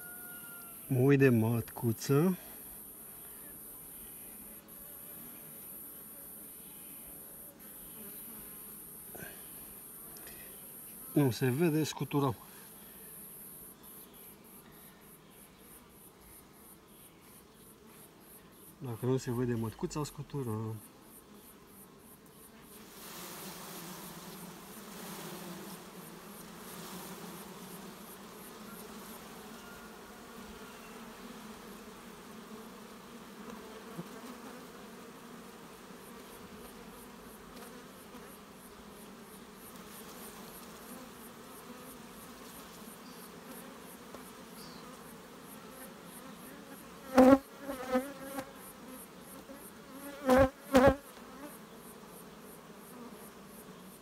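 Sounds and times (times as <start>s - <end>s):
honey bees buzzing: 0.0s - 54.0s.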